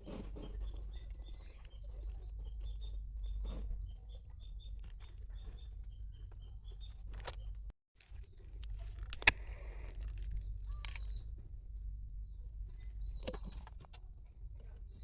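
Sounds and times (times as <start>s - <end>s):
small bird chirping: 0.0s - 7.6s, 8.2s - 11.4s, 12.2s - 14.0s.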